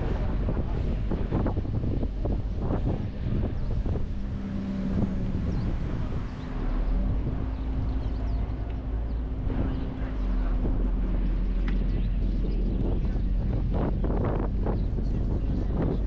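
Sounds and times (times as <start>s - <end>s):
boat engine drone: 0.0s - 16.0s
wind buffeting microphone: 0.0s - 16.0s.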